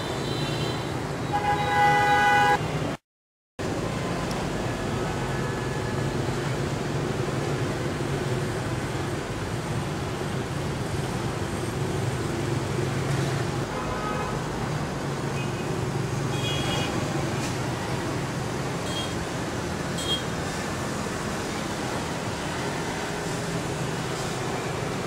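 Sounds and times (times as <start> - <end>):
motorbike and scooter engines: 0.0 - 3.0, 3.6 - 25.0.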